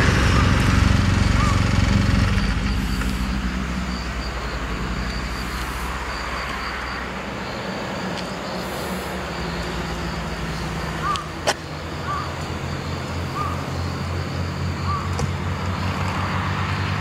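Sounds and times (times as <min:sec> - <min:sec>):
car engine pulling away: 0:00.0 - 0:17.0.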